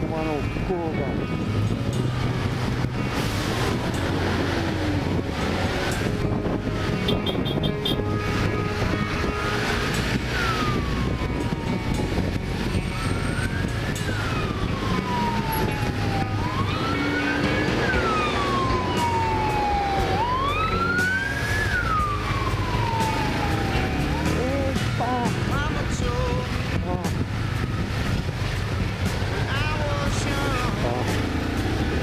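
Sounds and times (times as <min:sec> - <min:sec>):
motorcycle and traffic drone: 0:00.0 - 0:32.0
wailing siren: 0:03.5 - 0:25.7, 0:26.3 - 0:31.6.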